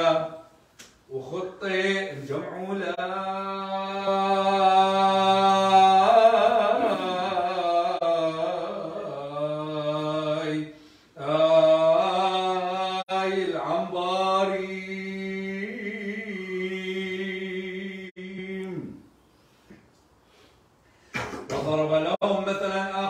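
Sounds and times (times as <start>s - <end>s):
man chanting: 0.0s - 19.0s, 21.4s - 23.0s.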